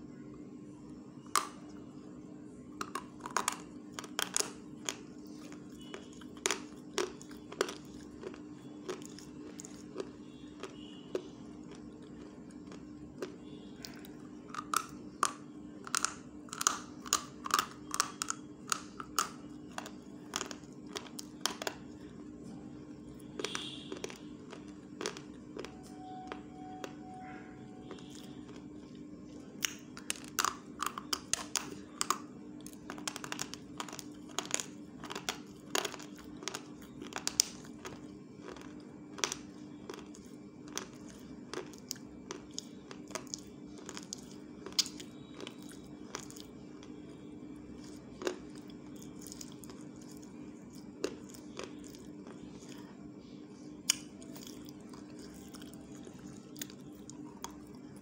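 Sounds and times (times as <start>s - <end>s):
steady low hum: 0.0s - 58.0s
person crunching and chewing: 2.8s - 22.4s, 23.1s - 27.0s, 27.8s - 53.0s, 53.8s - 58.0s.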